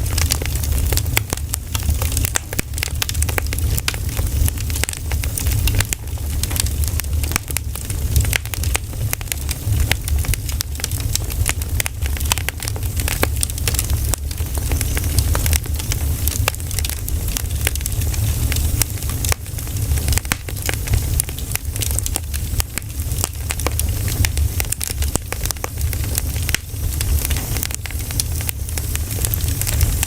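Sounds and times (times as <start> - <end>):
low fire rumble: 0.0 - 30.0
pine cones crackling in campfire: 0.0 - 30.0.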